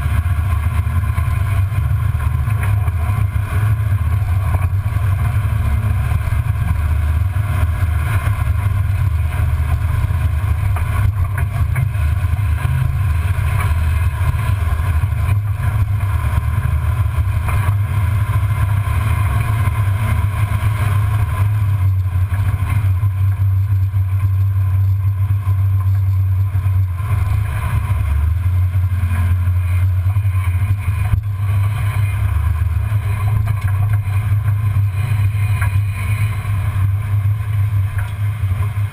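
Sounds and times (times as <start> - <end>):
low engine and drivetrain rumble: 0.0 - 38.9.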